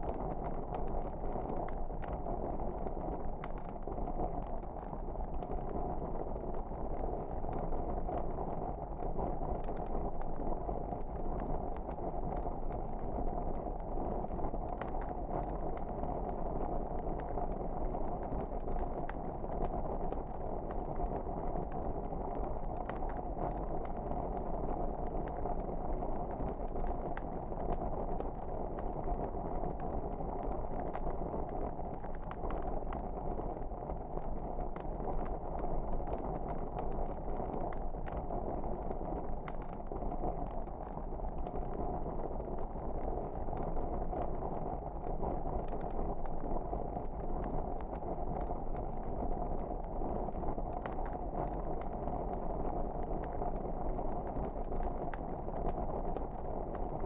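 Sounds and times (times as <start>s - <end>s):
fire crackling and popping: 0.0s - 57.0s
wood fire burning: 0.0s - 57.0s.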